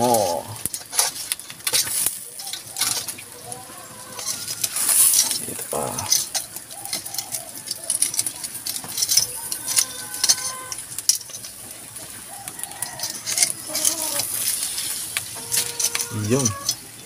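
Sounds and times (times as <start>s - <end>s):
fish sizzling on charcoal grill: 0.0s - 17.0s.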